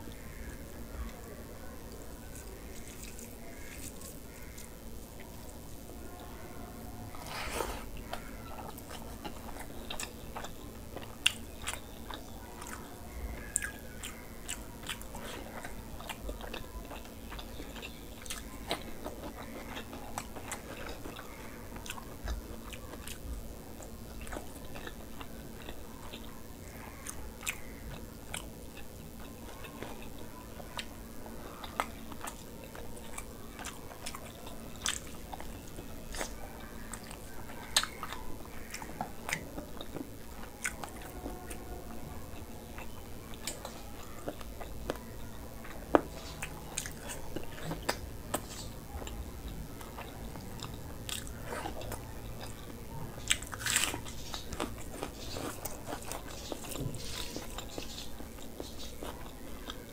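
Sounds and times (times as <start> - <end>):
person chewing food: 1.9 - 6.4, 7.1 - 59.9.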